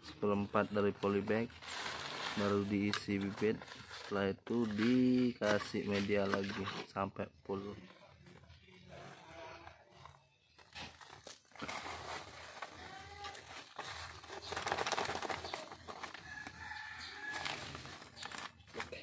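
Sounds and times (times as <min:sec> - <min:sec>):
plastic bag rustling and crinkling: 0:00.0 - 0:07.0, 0:09.9 - 0:19.0
hands packing soil: 0:00.2 - 0:07.8, 0:10.0 - 0:19.0.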